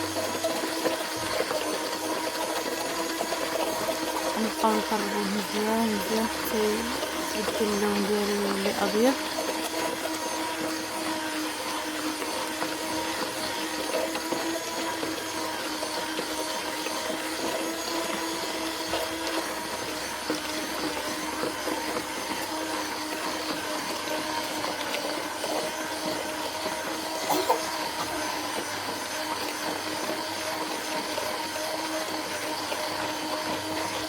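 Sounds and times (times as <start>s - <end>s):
electric mixer whining: 0.0s - 34.0s.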